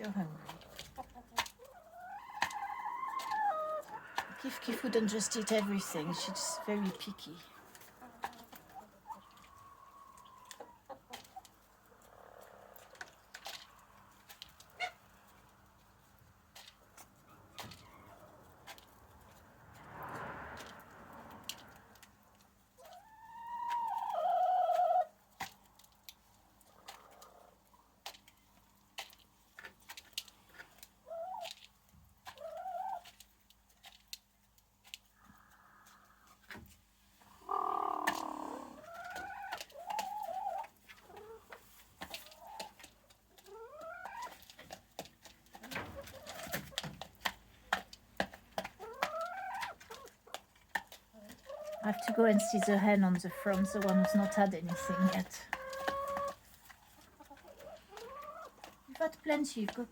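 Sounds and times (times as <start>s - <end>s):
beaks pecking at grain: 0.0s - 59.9s
hens clucking and trilling: 0.0s - 59.9s.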